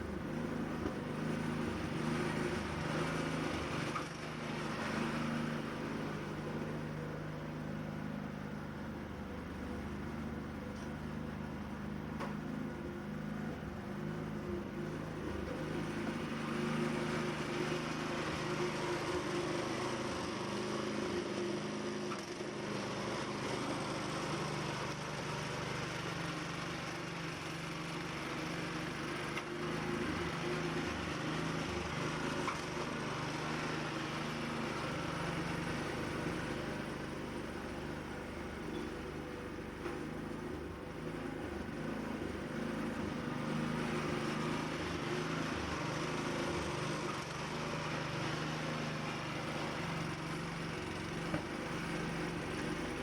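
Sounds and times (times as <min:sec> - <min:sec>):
engine running steadily: 0:00.0 - 0:53.0.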